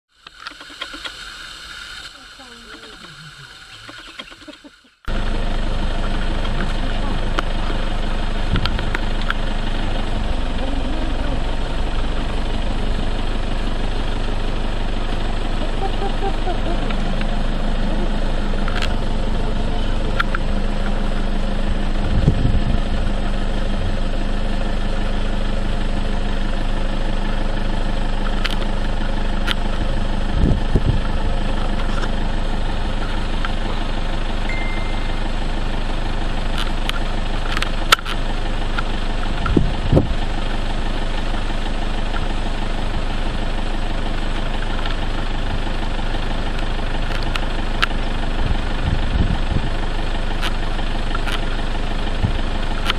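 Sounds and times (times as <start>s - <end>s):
vehicle engine humming: 0.2s - 52.9s.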